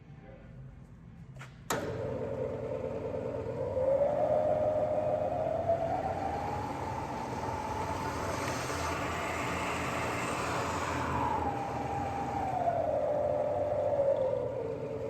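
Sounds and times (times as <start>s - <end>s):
low hum: 0.0s - 15.0s
drill press whine: 1.7s - 15.0s.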